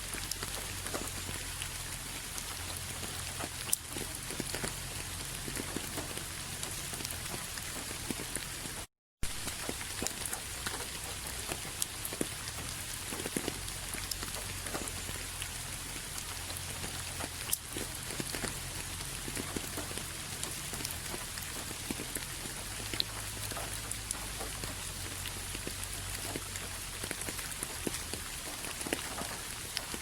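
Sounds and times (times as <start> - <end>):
raindrops ticking on a surface: 0.0 - 30.0
steady rain: 0.0 - 30.0.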